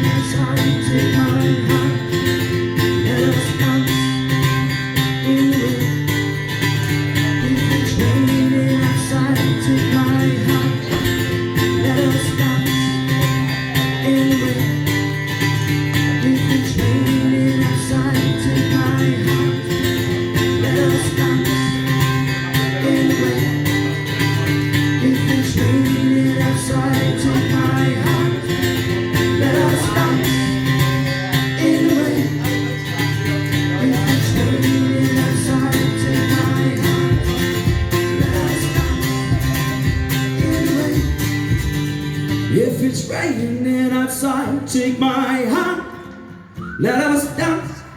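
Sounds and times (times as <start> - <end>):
strummed guitar: 0.0 - 47.9.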